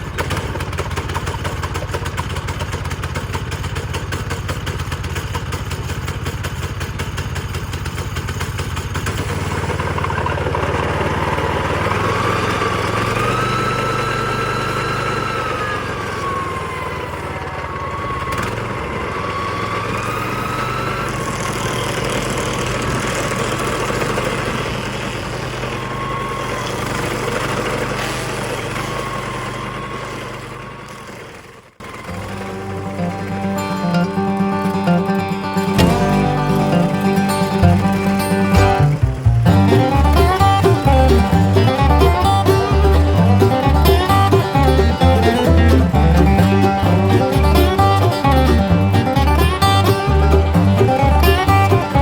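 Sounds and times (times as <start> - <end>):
small gas engine running: 0.0 - 52.0.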